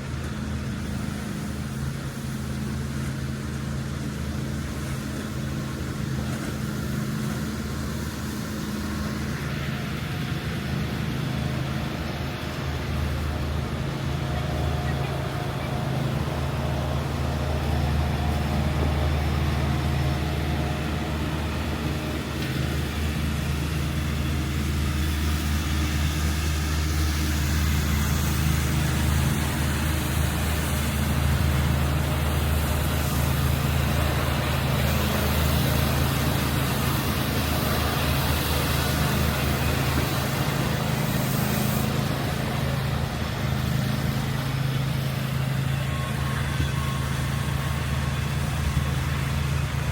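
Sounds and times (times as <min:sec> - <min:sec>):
motor vehicle engine hum: 0:00.0 - 0:49.9
road noise: 0:00.0 - 0:49.9.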